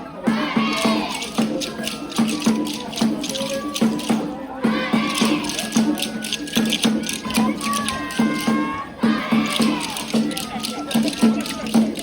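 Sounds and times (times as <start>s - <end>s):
drum beating steadily: 0.0s - 12.0s
voices calling out: 0.0s - 12.0s
rattling percussion: 0.1s - 12.0s.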